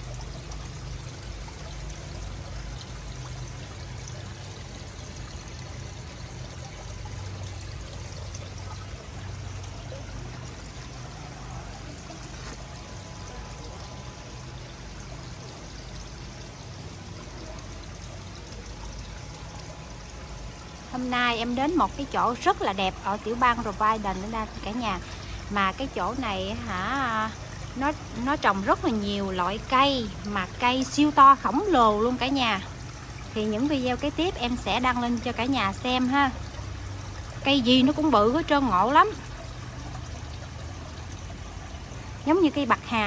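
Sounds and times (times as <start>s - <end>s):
water trickling into a pond: 0.0s - 43.0s.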